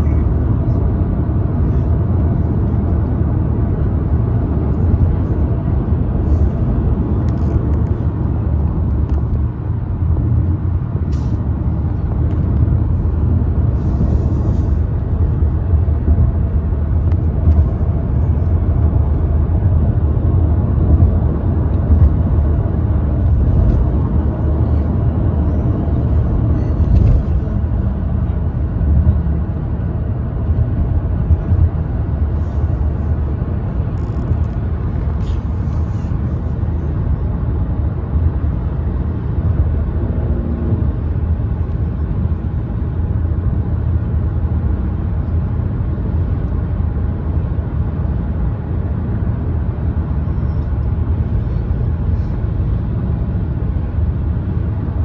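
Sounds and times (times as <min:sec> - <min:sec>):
car cabin road noise: 0:00.0 - 0:55.0.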